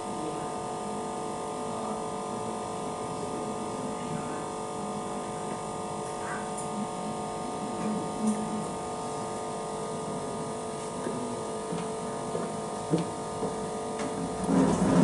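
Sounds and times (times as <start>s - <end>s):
machine electrical hum: 0.0s - 15.0s.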